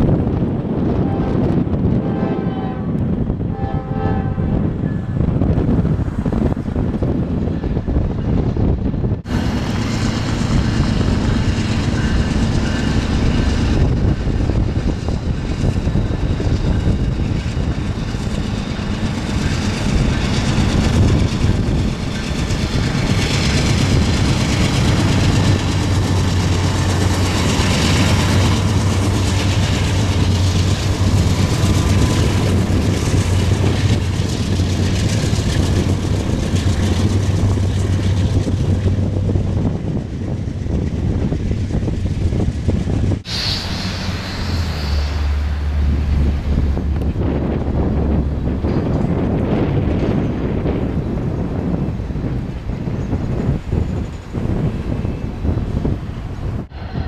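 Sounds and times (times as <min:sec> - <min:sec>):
locomotive engines humming: 0:00.0 - 0:57.0
railcars rumbling: 0:00.0 - 0:57.0.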